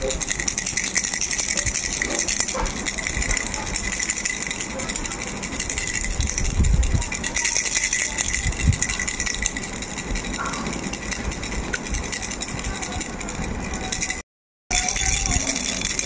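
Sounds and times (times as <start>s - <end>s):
plastic baby rattle shaking: 0.0s - 16.0s.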